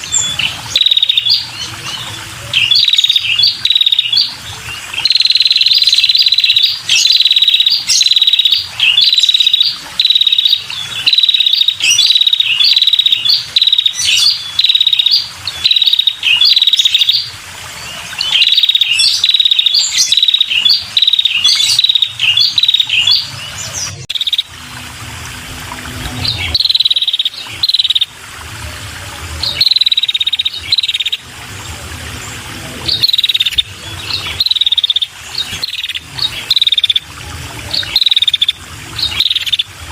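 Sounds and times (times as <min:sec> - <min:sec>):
bird buzzy trilled calls: 0:00.0 - 0:24.5, 0:26.1 - 0:28.2, 0:29.4 - 0:31.3, 0:32.9 - 0:37.1, 0:37.7 - 0:39.7.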